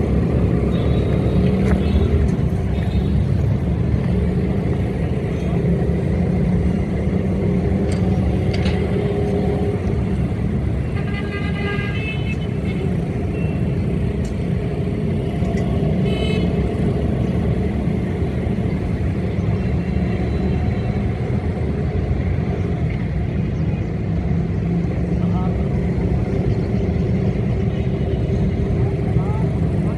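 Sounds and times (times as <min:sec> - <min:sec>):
diesel locomotive engine rumble: 0:00.0 - 0:29.9.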